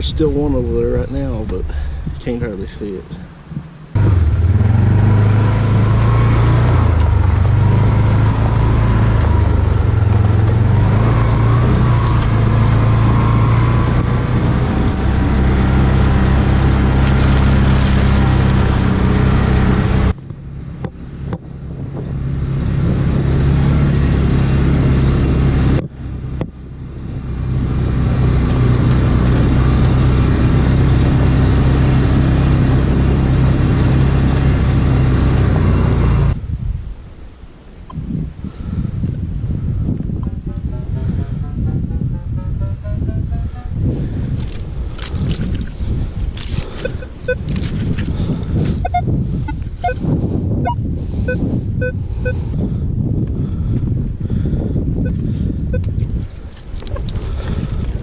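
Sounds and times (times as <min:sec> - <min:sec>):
off-road vehicle engine running: 0:02.5 - 0:36.4, 0:38.7 - 0:58.0.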